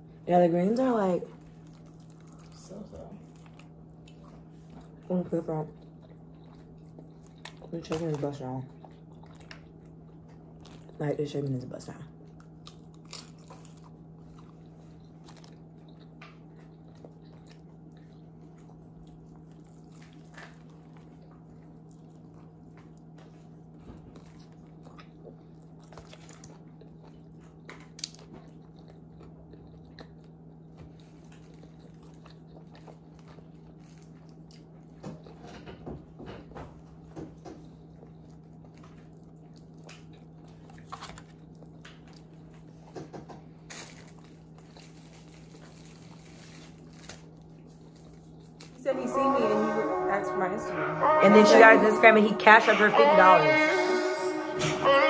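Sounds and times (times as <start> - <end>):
steady low hum: 0.0 - 55.0
crunchy chicken chewing: 1.3 - 11.5, 12.1 - 48.8.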